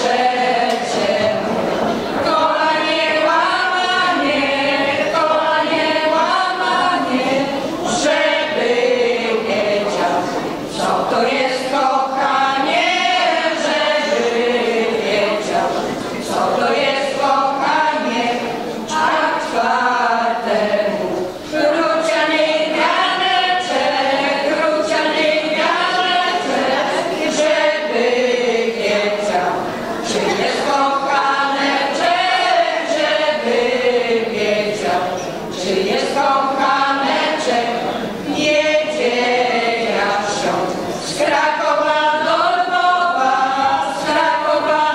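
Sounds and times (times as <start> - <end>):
women's vocal group singing unaccompanied: 0.0 - 44.9.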